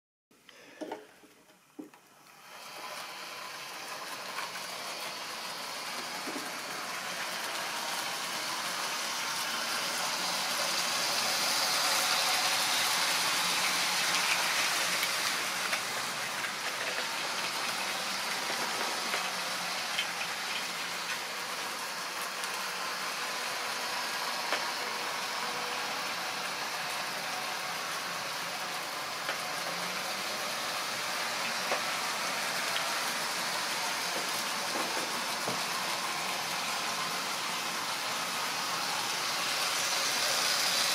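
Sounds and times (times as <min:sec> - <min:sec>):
model train whirring rattle: 0:02.3 - 0:40.9.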